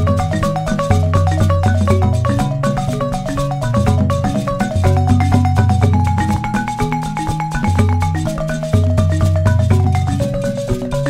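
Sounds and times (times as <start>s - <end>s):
steady bass line: 0.0s - 11.0s
tune of struck notes: 0.0s - 11.0s.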